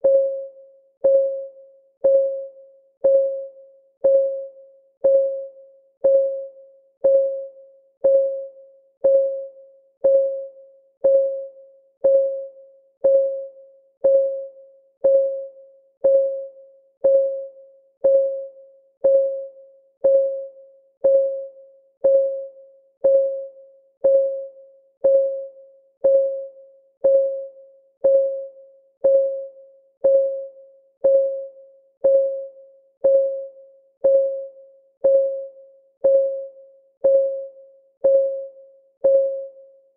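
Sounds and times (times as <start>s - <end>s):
timer clock ticking: 3.0s - 39.5s.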